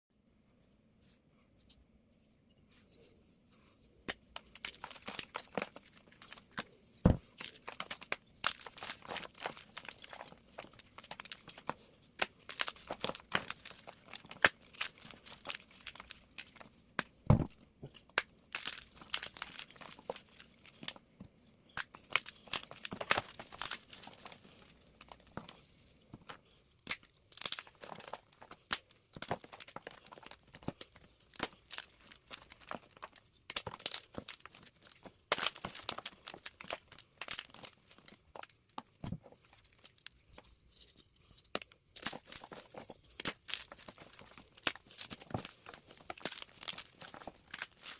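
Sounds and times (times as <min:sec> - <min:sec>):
chalk crunching and crackling: 0:02.7 - 0:17.1, 0:17.8 - 0:21.0, 0:21.7 - 0:47.9.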